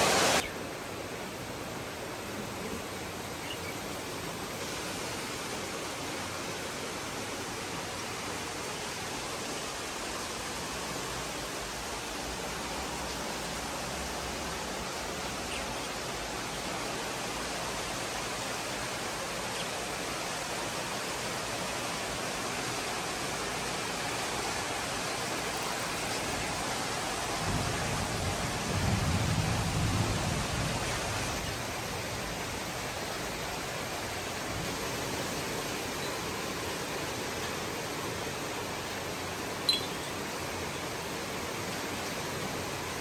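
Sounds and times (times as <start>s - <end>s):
steady rain hiss: 0.0s - 43.0s.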